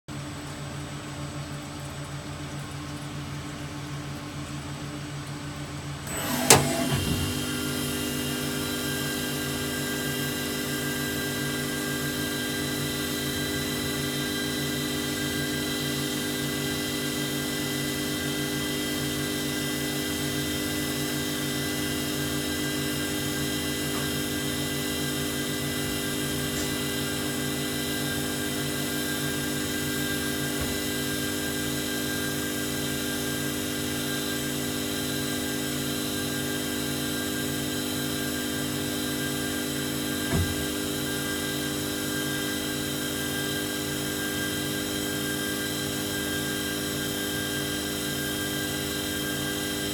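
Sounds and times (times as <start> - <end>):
lathe machine hum: 6.1 - 49.9.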